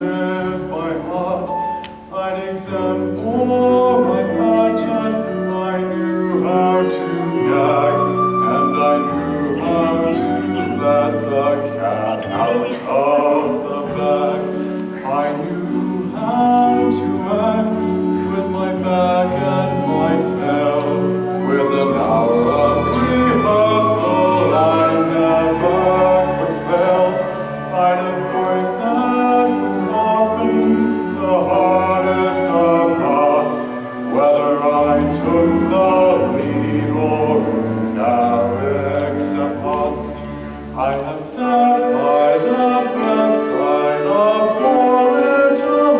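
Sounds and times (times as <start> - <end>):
musical theatre accompaniment: 0.0 - 45.9
person singing: 0.0 - 45.9.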